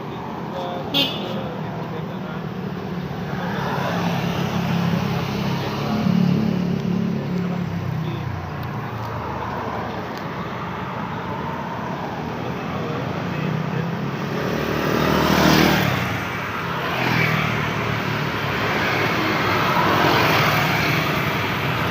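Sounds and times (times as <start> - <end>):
cars and motorbikes going by: 0.0 - 21.9.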